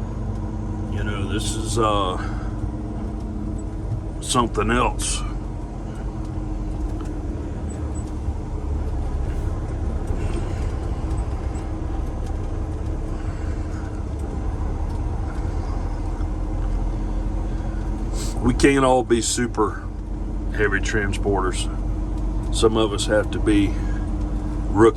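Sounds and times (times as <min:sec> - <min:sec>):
road noise: 0:00.0 - 0:24.9
truck diesel engine drone: 0:00.0 - 0:24.9.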